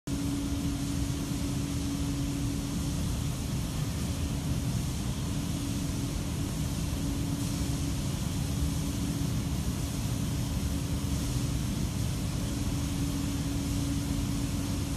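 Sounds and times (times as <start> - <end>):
washing line machine rumble: 0.1 - 14.9.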